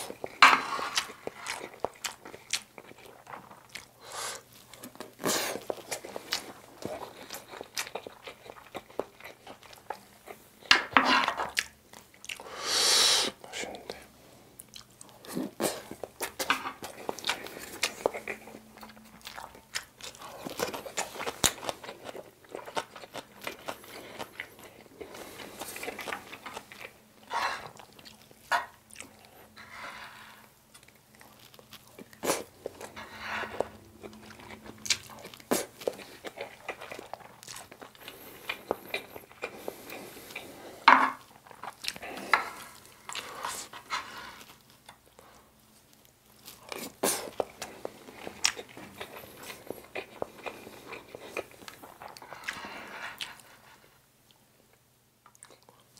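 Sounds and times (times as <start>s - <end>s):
chewing and wet mouth sounds: 0.0s - 10.7s, 11.5s - 12.5s, 13.2s - 29.6s, 30.6s - 55.9s.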